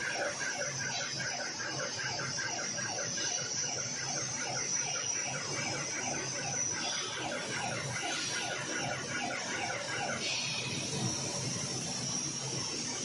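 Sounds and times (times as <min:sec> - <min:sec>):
rapid repeating squeal: 0:00.0 - 0:13.0.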